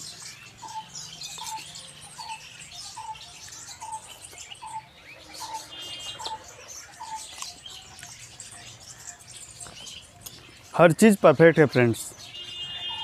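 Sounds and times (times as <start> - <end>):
high bird chirping: 0.0 - 13.0.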